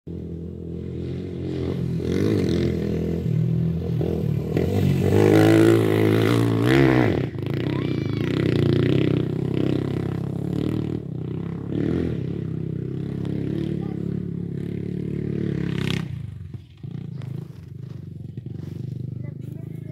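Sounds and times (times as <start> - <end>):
dirt bike engine revving: 0.1 - 19.9.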